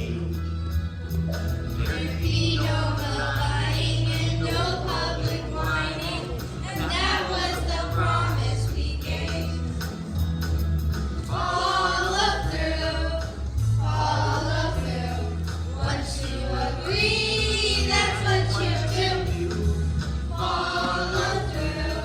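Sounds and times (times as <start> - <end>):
instrumental accompaniment with bass: 0.0 - 22.0
children singing: 1.8 - 9.7, 11.2 - 22.0.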